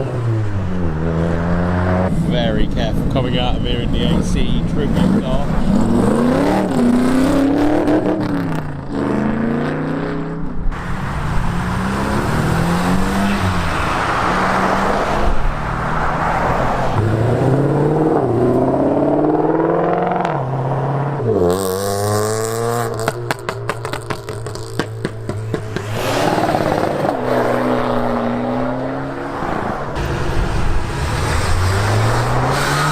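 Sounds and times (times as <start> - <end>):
cars accelerating and changing gear: 0.0 - 32.9.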